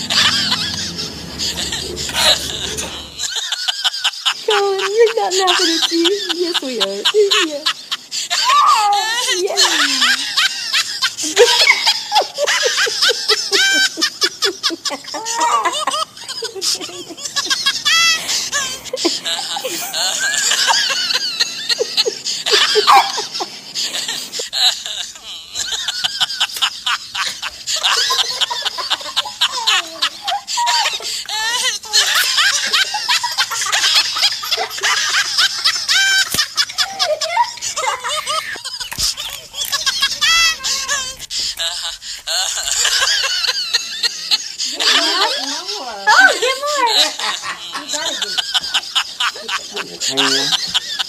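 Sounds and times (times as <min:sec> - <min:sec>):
baby giggling: 0:00.0 - 0:51.0
laughter in quick bursts: 0:00.0 - 0:51.0.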